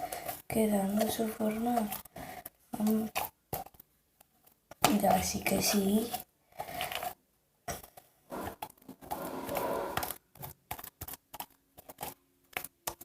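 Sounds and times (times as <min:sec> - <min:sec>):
slime squishing and crackling: 0:00.0 - 0:13.0.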